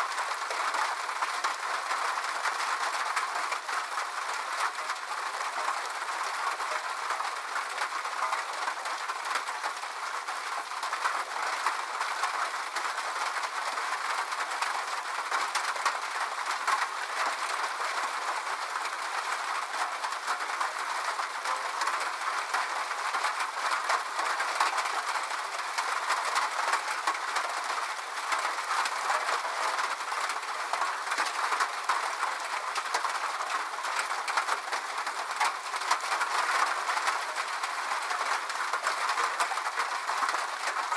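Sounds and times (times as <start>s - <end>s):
rain on a metal roof: 0.0s - 40.9s.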